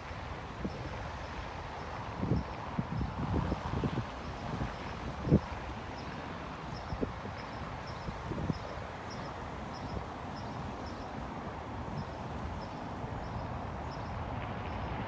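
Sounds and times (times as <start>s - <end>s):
distant traffic hum: 0.0s - 15.0s
wind: 0.0s - 15.0s.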